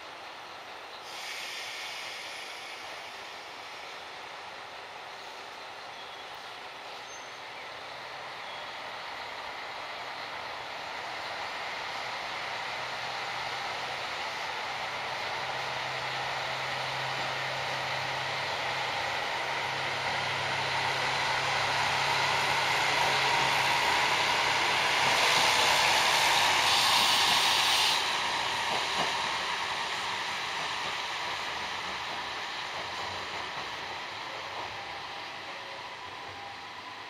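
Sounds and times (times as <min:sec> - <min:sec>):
diesel railcar engine humming: 0:00.0 - 0:37.0
railcar hiss: 0:00.0 - 0:37.0.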